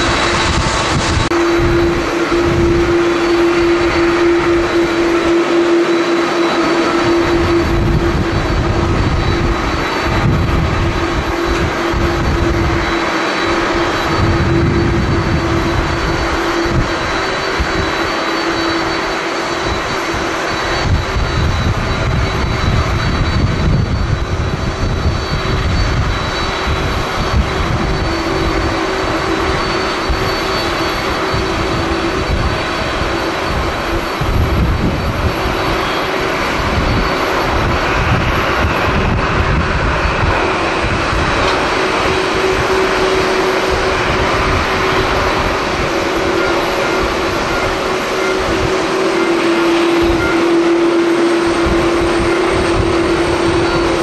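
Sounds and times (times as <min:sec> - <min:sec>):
jet engines on approach: 0:00.0 - 0:54.0
wind buffeting microphone: 0:00.0 - 0:54.0.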